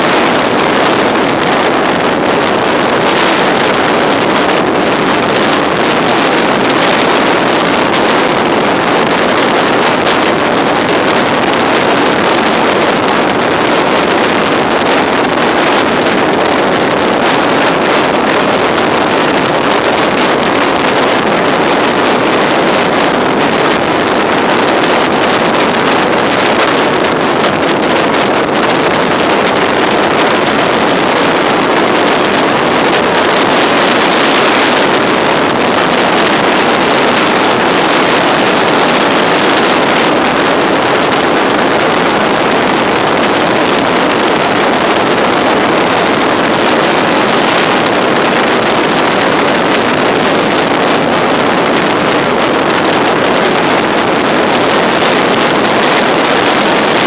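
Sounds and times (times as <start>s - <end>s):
road noise: 0.0s - 57.0s
wind rushing on microphone: 0.0s - 57.0s.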